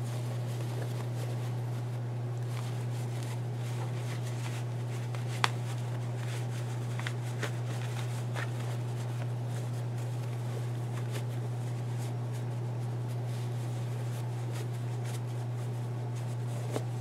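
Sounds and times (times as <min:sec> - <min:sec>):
fabric rustling: 0:00.0 - 0:17.0
steady low hum: 0:00.0 - 0:17.0.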